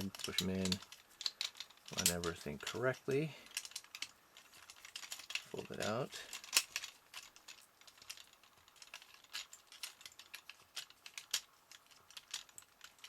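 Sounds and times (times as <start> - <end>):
plastic parts clicking and rattling: 0.0 - 13.0.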